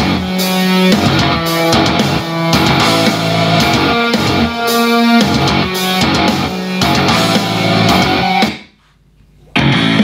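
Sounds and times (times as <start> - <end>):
guitar music through speaker: 0.0 - 8.6, 9.5 - 10.0.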